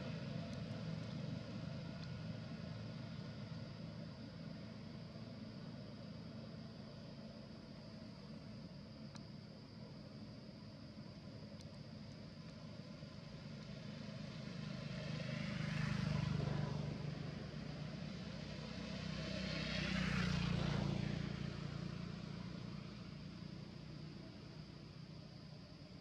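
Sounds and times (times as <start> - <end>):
vehicles passing by: 0.0 - 8.6, 11.2 - 26.0.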